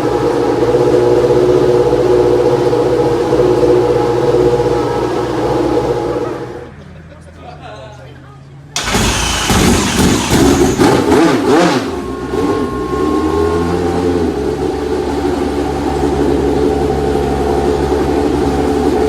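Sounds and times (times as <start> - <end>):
racing car engine revving and idling: 0.0 - 7.2, 8.6 - 19.0.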